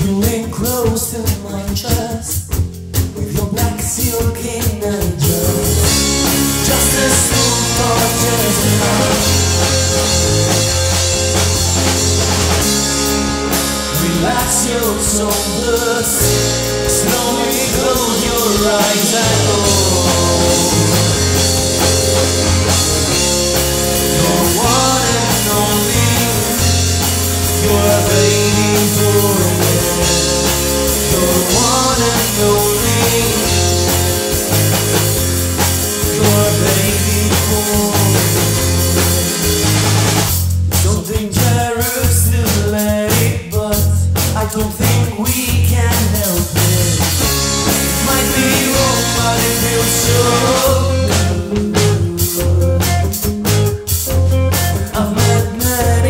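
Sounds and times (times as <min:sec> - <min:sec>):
person singing lead vocal: 0:00.0 - 0:11.0, 0:12.8 - 0:40.0, 0:40.8 - 0:53.6, 0:54.7 - 0:56.0
bass guitar: 0:00.0 - 0:56.0
drum kit: 0:00.0 - 0:56.0
electric guitar: 0:05.1 - 0:56.0.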